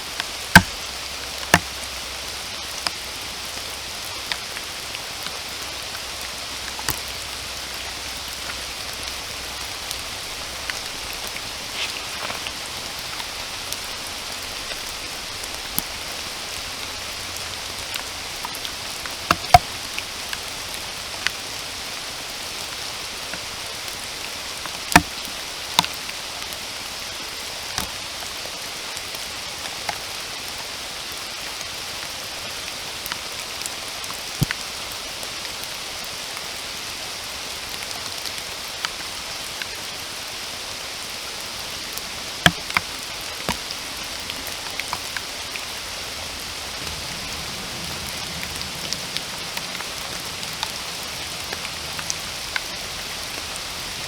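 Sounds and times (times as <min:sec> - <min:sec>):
close raindrop impacts: 0:00.0 - 0:31.2, 0:37.8 - 0:54.0
steady rain hiss: 0:00.0 - 0:54.0.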